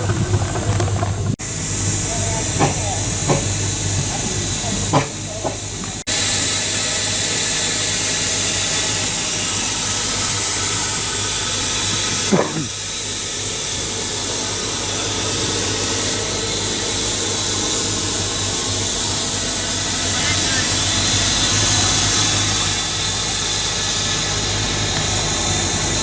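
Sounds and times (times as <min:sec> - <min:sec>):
steam engine hissing: 0:00.0 - 0:26.0.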